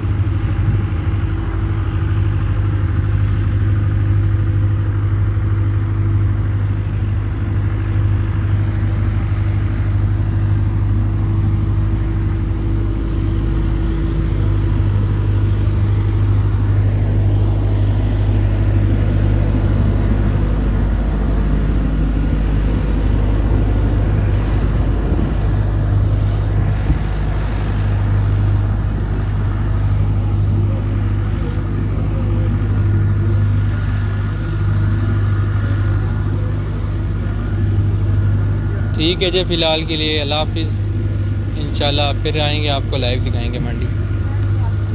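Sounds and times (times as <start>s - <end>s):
engine running low hum: 0.0s - 44.9s.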